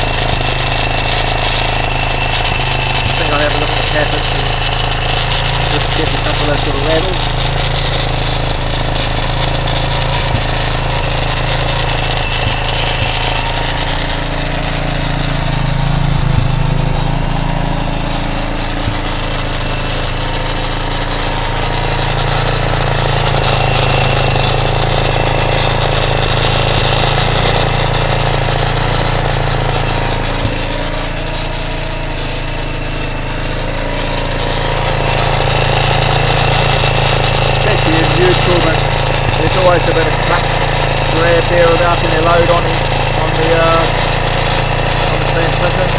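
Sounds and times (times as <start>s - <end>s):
engine top end rattle: 0.0s - 45.9s
motorcycle engine idling: 0.0s - 45.9s.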